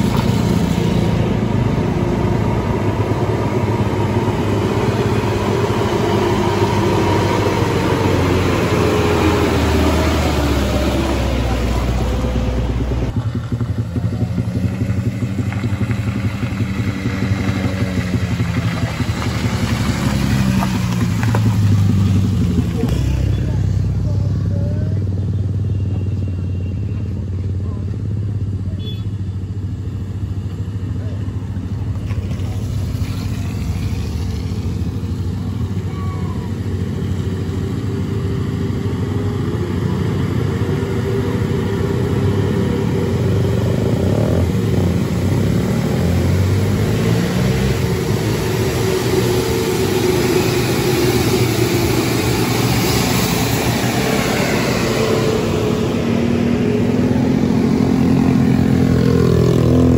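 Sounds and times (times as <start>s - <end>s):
car passing: 0.0s - 25.2s, 30.7s - 59.9s
bus engine climbing: 0.0s - 28.7s, 29.5s - 59.9s
motorcycles passing: 0.0s - 59.9s.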